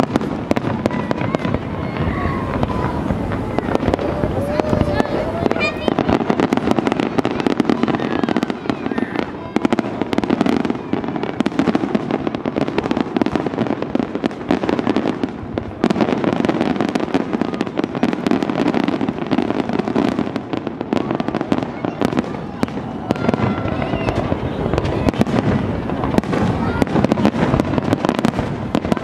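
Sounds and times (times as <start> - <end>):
fireworks bursts and crackling bangs: 0.0 - 29.0.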